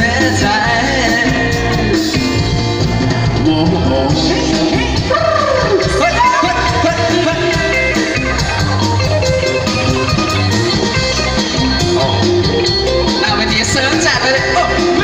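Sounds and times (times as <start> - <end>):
guitar: 0.0 - 15.0
live band pop music: 0.0 - 15.0.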